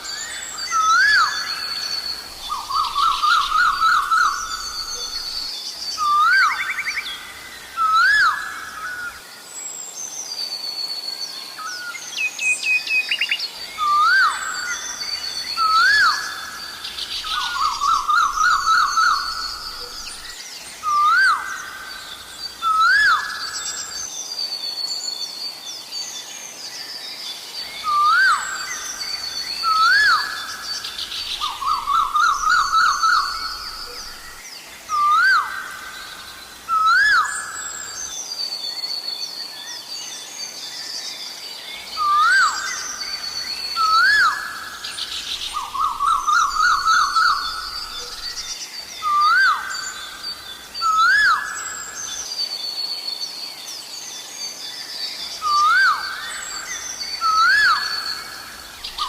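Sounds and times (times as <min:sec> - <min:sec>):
small birds chirping: 0:00.0 - 0:10.6, 0:11.6 - 0:59.0.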